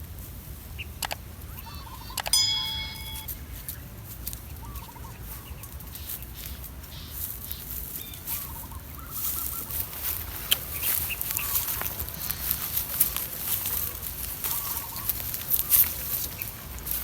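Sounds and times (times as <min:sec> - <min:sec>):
chickens clucking: 0:00.7 - 0:03.2, 0:04.2 - 0:17.0.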